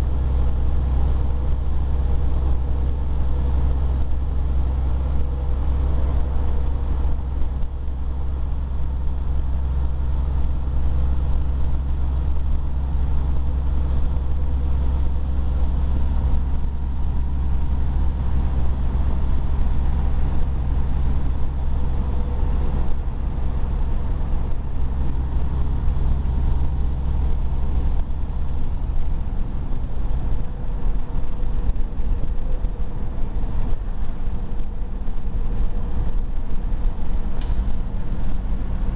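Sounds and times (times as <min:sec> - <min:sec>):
faint steady whine: 0:00.0 - 0:38.9
truck engine and road drone: 0:00.0 - 0:38.9.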